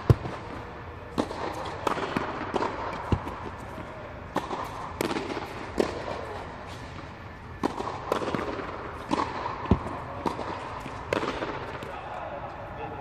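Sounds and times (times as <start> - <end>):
tennis balls bouncing on court: 0.0 - 12.2
tennis balls hit by rackets: 0.0 - 12.3.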